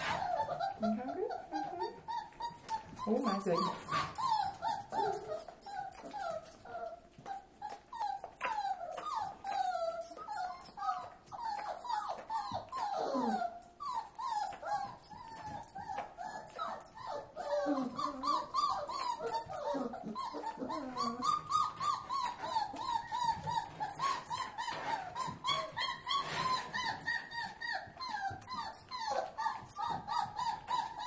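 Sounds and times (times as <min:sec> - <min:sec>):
puppy whimpering and squeaking: 0:00.0 - 0:31.0.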